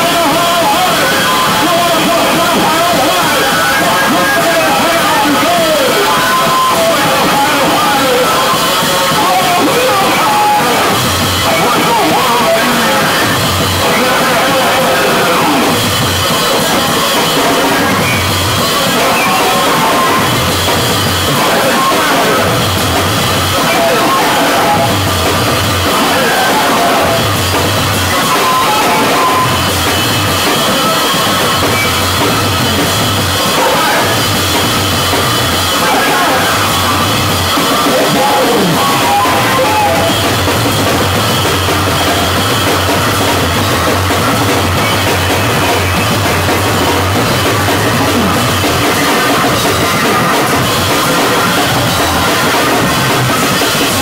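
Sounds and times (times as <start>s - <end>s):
distorted bass guitar: 0.0s - 54.0s
drum kit played hard: 0.0s - 54.0s.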